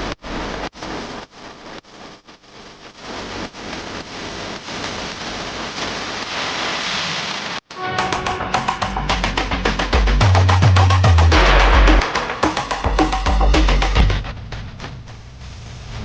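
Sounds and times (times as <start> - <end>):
hissing noise sweep: 3.1 - 16.0.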